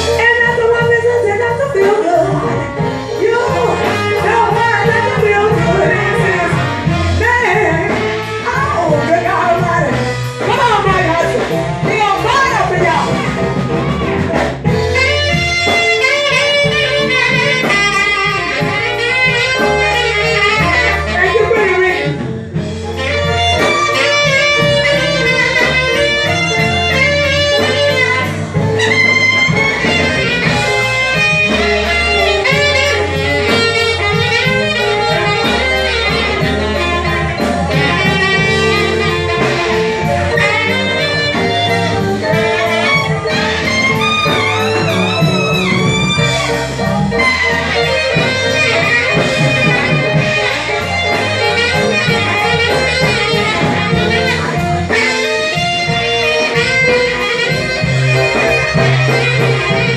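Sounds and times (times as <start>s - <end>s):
live band playing jazz-blues: 0.0s - 59.9s
steady bass line: 0.0s - 59.9s.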